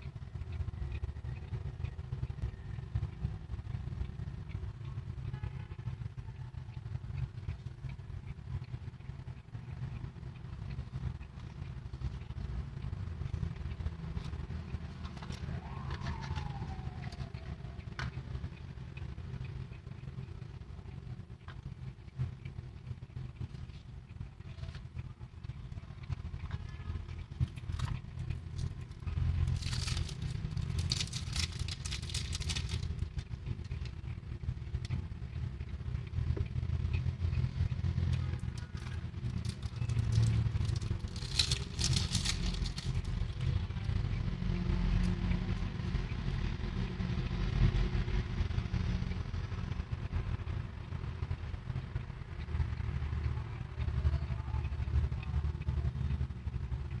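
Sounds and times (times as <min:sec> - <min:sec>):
low background rumble: 0:00.0 - 0:57.0.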